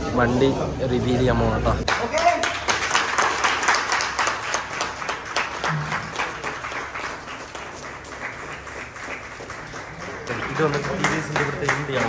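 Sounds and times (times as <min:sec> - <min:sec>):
people clapping: 0:01.8 - 0:12.0.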